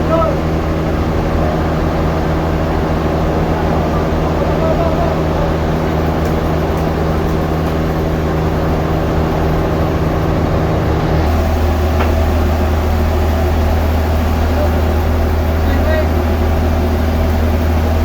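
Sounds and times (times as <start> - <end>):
sawmill machinery humming: 0.0 - 18.0.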